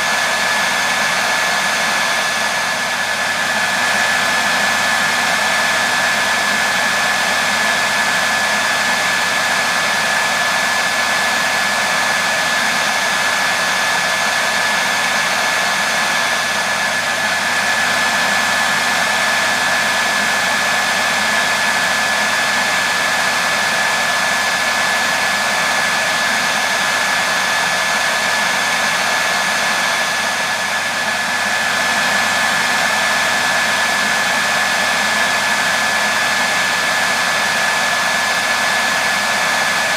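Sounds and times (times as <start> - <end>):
hairdryer running: 0.0 - 39.9.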